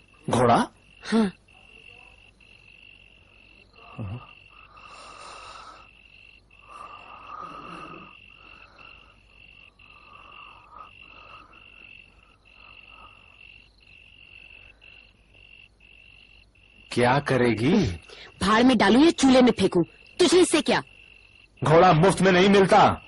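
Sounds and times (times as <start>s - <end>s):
crickets chirping: 0.0s - 23.0s
frogs croaking: 0.0s - 23.0s.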